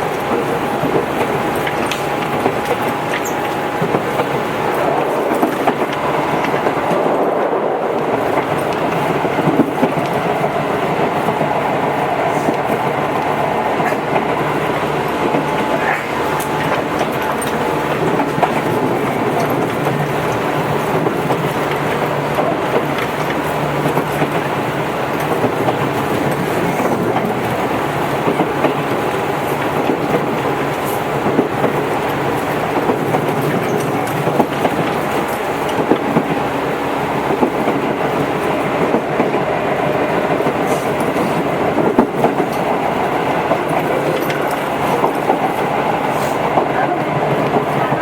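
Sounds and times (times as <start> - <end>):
train wheels rumbling on rail: 0.0 - 48.0
wheels clicking over rail joints: 0.0 - 48.0.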